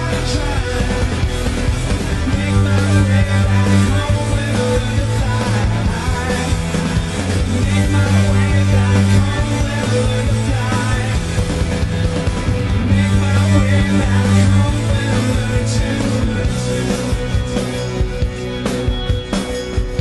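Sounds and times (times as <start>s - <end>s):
loud rock music: 0.0s - 20.0s.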